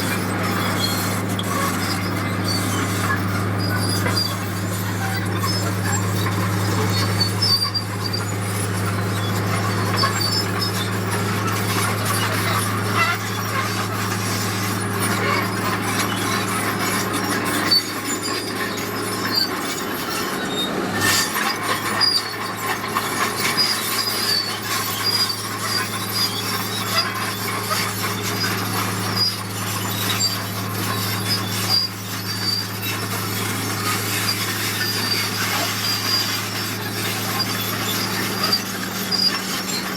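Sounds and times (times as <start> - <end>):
diesel engine humming: 0.0 - 39.9
high squeaks: 0.0 - 39.9.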